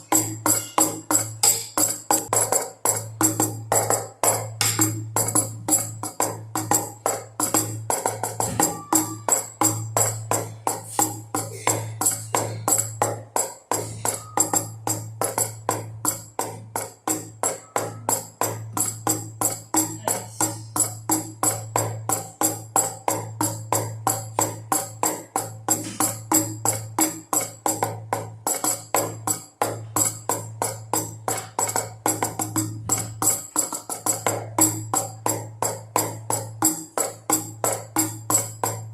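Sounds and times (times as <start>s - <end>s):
drums beating: 0.0s - 38.9s
steady low hum: 0.0s - 38.9s.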